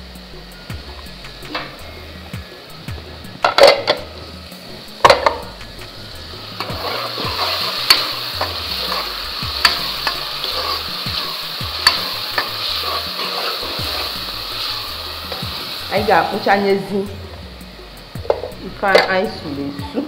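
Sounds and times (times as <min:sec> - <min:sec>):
onions and tomatoes sizzling: 0:00.0 - 0:20.0.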